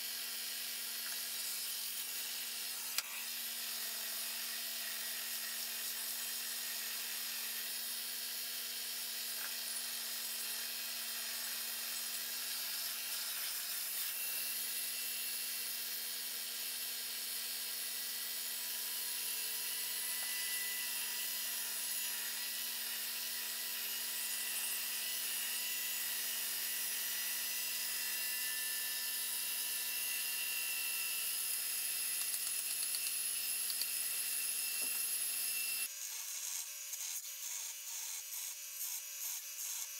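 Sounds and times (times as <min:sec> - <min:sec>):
grinder motor hum: 0:00.0 - 0:39.9.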